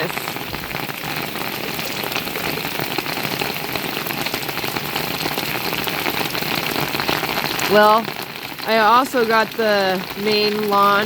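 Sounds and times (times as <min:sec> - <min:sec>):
heavy rain pouring: 0:00.0 - 0:11.0
raindrops hitting surfaces: 0:00.0 - 0:11.0.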